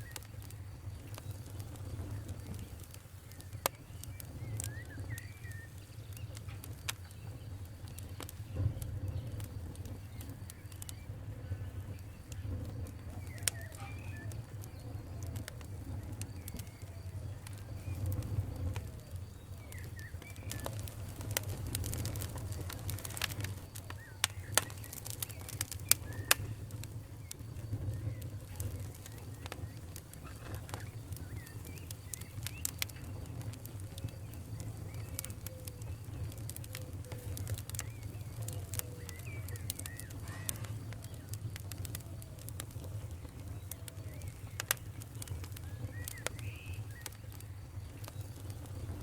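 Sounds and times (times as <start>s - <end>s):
low rumble of fire: 0.0s - 49.0s
wood fire crackling and popping: 0.0s - 49.0s.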